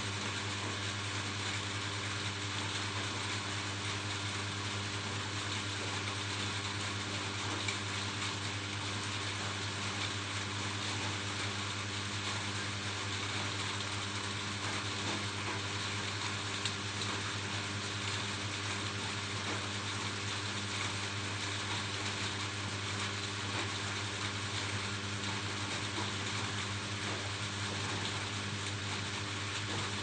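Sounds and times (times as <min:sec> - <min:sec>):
rain on a roof: 0:00.0 - 0:30.0.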